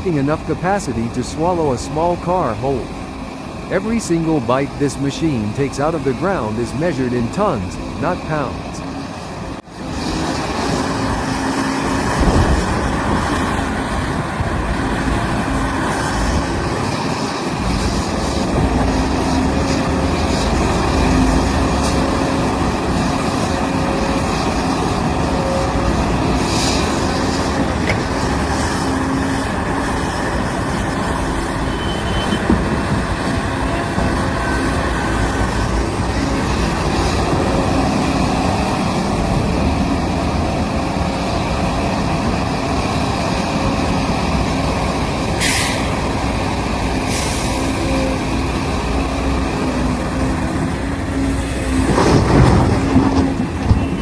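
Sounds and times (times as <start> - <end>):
excavator diesel engine rumbling: 0.0 - 54.0.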